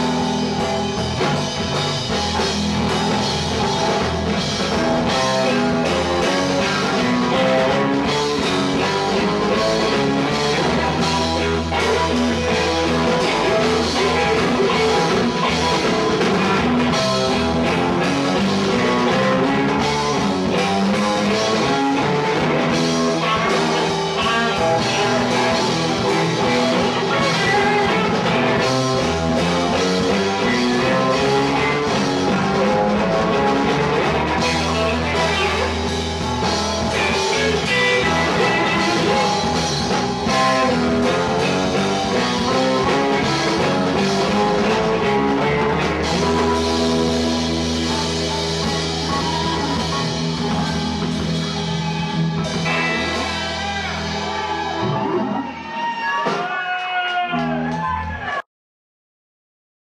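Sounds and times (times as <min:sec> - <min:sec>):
keyboards: 0:00.0 - 0:56.6
bass guitar: 0:00.0 - 0:58.4
drums: 0:00.0 - 0:58.4
electric guitar: 0:00.0 - 0:58.4.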